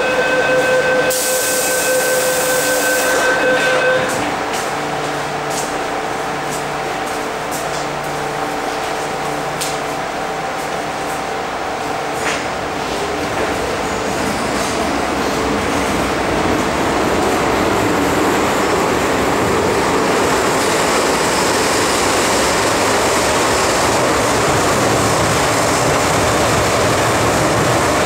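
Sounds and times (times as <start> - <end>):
train wheel and rail rumble: 0.0 - 28.0.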